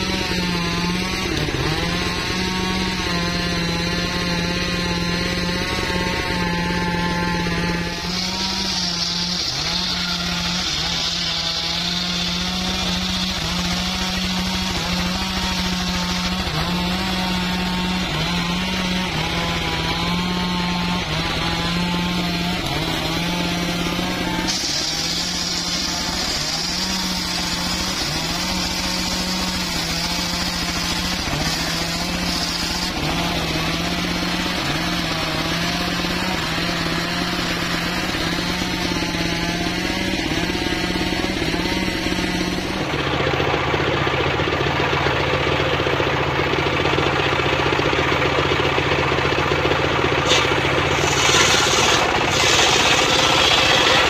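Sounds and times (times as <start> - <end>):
circular saw cutting a log: 0.0 - 54.0.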